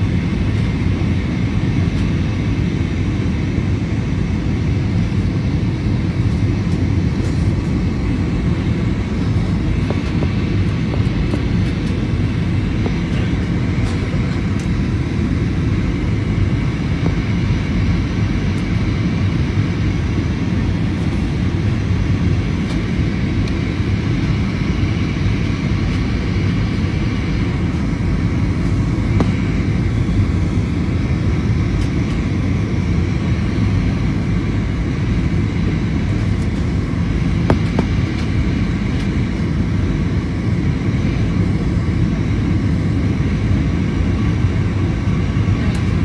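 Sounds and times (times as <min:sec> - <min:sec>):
airliner engines droning: 0:00.0 - 0:46.0
faint high whine: 0:00.0 - 0:46.0.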